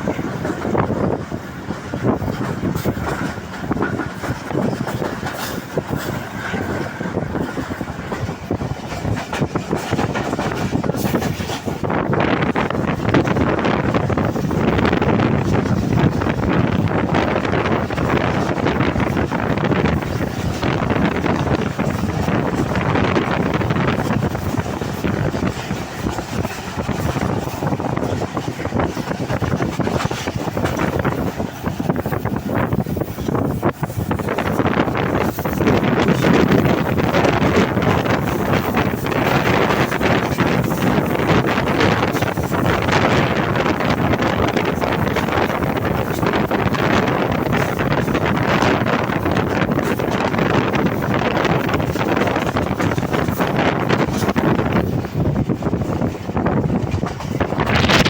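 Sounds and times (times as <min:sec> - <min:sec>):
train clattering and rattling: 0:00.0 - 0:58.0
train rolling rumble: 0:00.0 - 0:58.0
wind buffeting microphone: 0:00.0 - 0:58.0.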